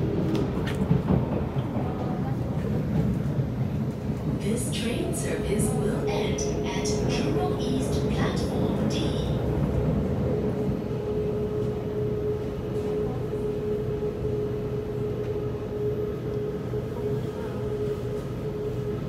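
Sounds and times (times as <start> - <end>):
steady train whine: 0.0 - 19.0
train wheels rumbling on track: 0.0 - 19.0.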